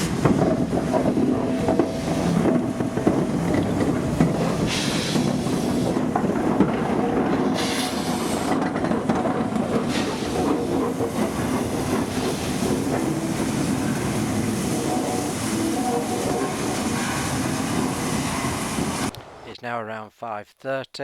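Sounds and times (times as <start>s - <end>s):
train wheels clattering on rails: 0.0s - 19.1s.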